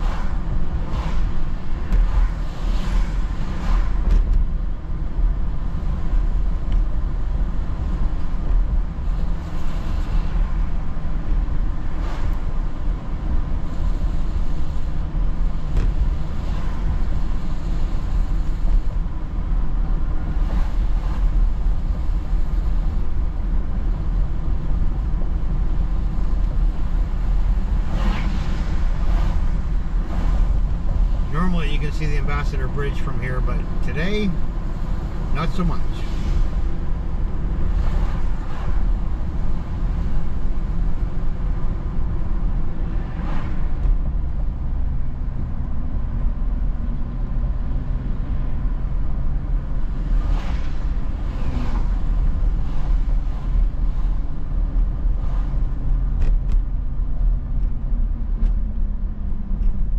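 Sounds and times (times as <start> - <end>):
car road noise on wet pavement: 0.0 - 59.9.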